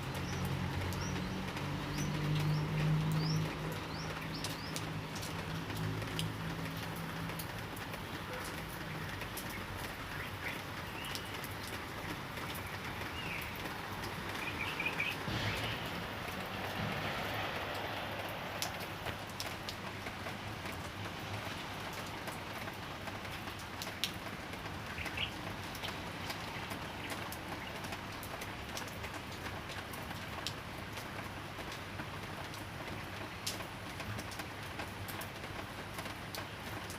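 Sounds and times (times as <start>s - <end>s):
sharp drips: 0.0s - 29.8s
light rain falling: 0.0s - 36.9s.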